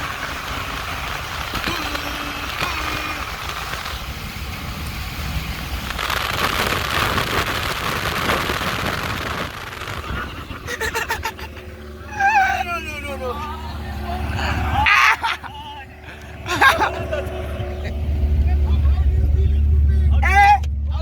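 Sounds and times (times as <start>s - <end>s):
car engine at speed: 0.0s - 21.0s
road noise: 0.0s - 21.0s.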